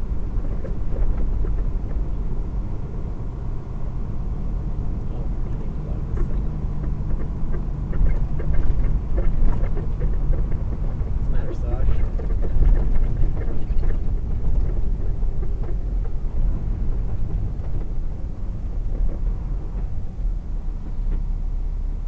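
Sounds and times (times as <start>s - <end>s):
vehicle engine and tyres rumbling: 0.0s - 22.0s.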